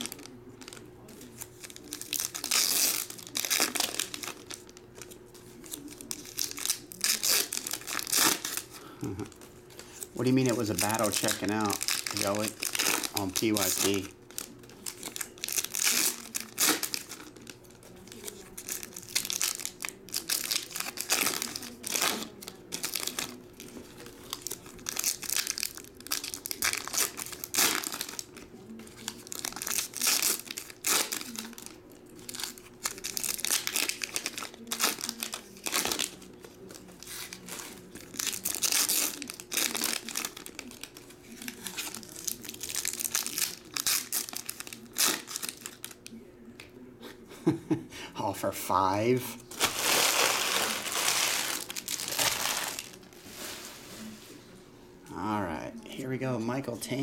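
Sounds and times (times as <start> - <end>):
foil wrappers tearing and crinkling: 0.0 - 46.2, 49.5 - 53.6.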